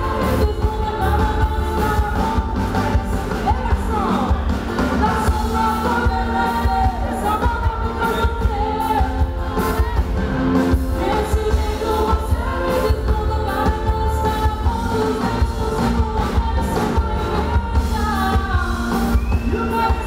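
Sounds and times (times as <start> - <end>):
heavy bass: 0.0 - 20.0
live band playing: 0.0 - 20.0
woman singing: 0.0 - 20.0.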